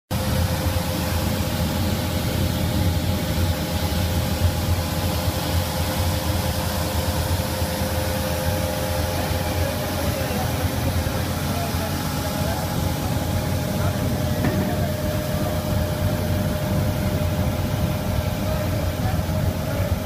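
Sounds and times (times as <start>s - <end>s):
bean peeling machine running: 0.1s - 20.0s.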